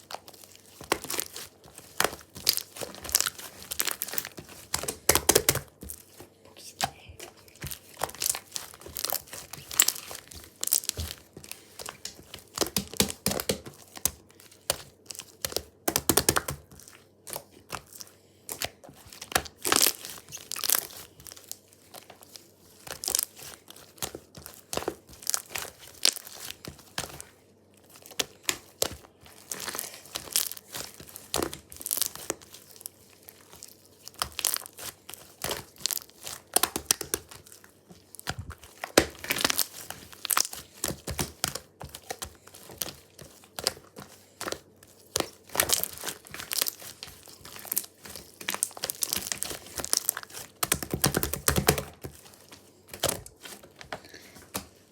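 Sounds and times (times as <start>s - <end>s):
paper crinkling and rustling: 0.0s - 54.9s.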